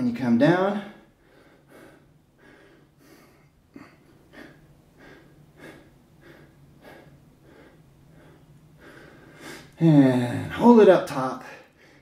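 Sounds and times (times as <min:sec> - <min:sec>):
man breathing hard: 0:00.8 - 0:10.6, 0:11.6 - 0:12.0.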